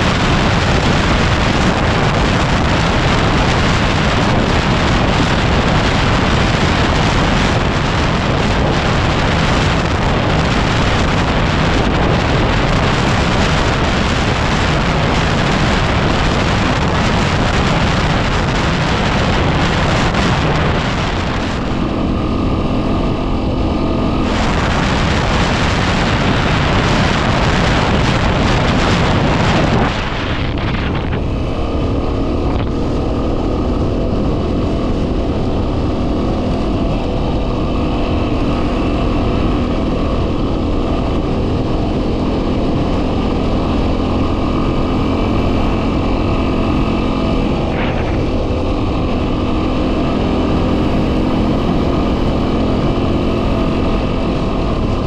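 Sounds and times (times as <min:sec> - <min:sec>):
motorcycle engine cruising: 0:00.0 - 0:55.0
wind buffeting microphone: 0:00.0 - 0:55.0.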